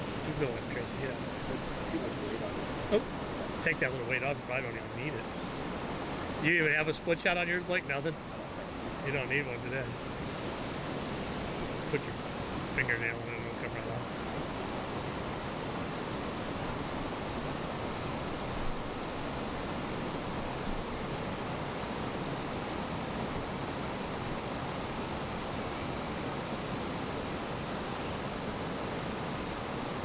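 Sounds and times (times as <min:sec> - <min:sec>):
flowing water rushing: 0:00.0 - 0:30.0.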